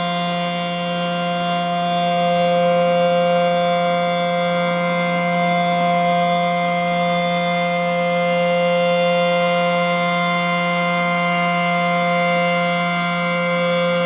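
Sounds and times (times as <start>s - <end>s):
outdoor warning siren steady tone: 0.0s - 14.0s.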